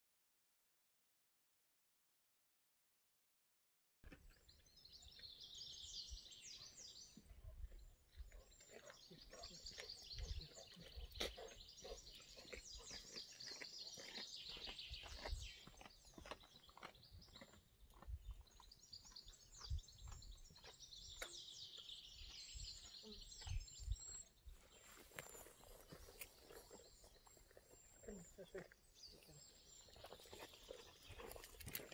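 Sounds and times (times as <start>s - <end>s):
songbirds chirping and calling: 4.1s - 31.9s.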